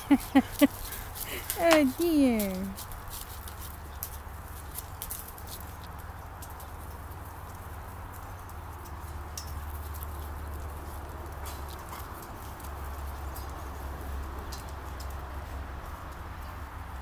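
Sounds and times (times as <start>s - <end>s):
puppy scuffling: 0.0s - 16.3s.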